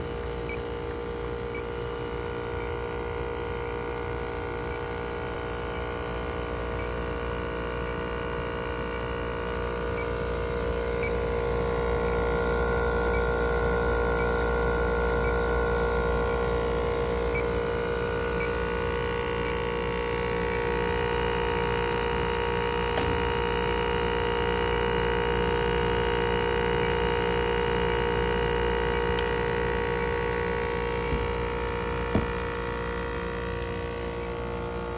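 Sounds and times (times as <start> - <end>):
heat pump humming: 0.0 - 34.9.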